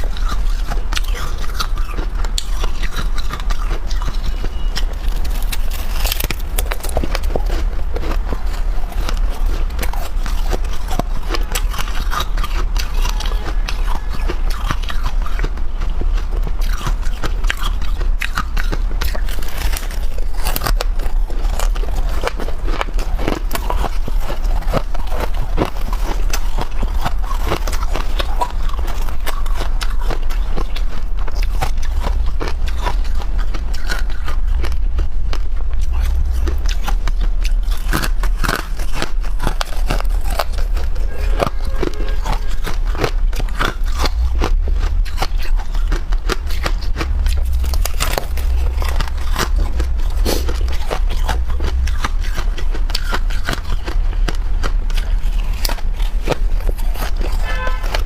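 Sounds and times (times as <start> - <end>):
frost being chewed: 0.0 - 58.0
steady low hum: 0.0 - 58.0.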